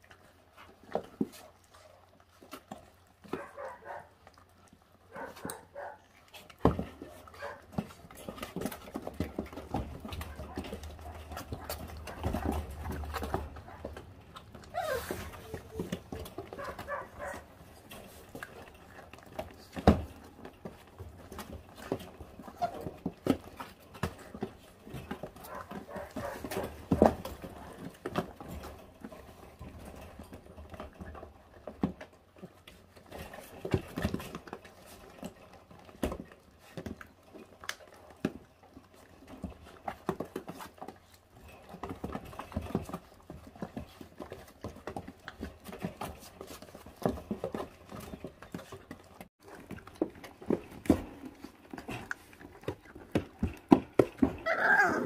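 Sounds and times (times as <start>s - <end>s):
puppies chewing meat and bone: 0.0s - 55.0s.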